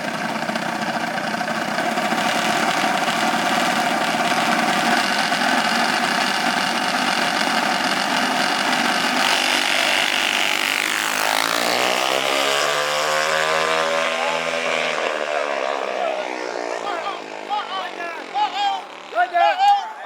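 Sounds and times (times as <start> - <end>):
small engine running: 0.0 - 19.6.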